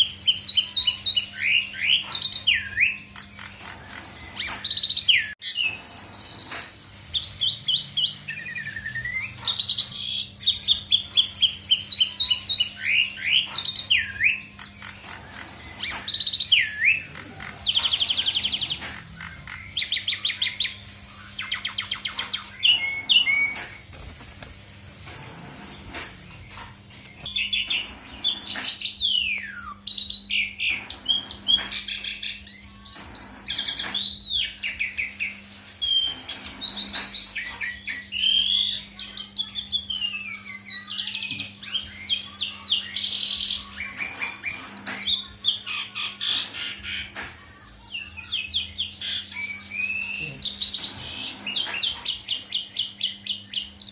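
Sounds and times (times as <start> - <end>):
starling singing: 0.0 - 24.5, 25.2 - 53.9.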